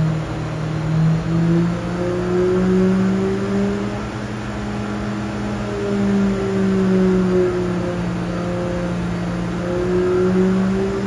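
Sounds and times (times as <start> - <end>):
motorcycle engine running on dyno: 0.0 - 11.0.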